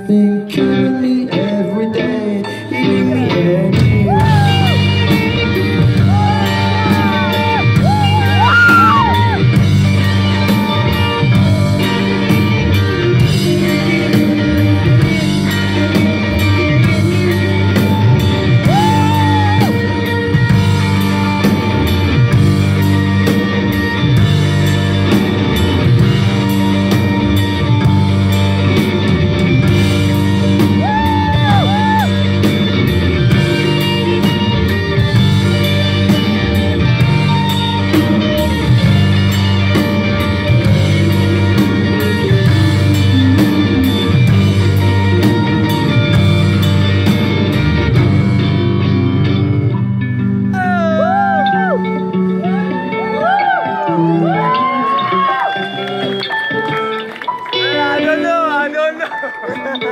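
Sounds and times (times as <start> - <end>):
electric guitars: 0.0 - 59.9
bass and drums: 2.9 - 55.0.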